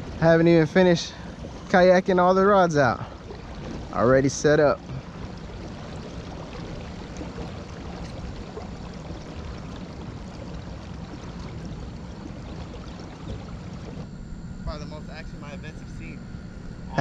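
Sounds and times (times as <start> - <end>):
water rushing along kayak hull: 0.0 - 17.0.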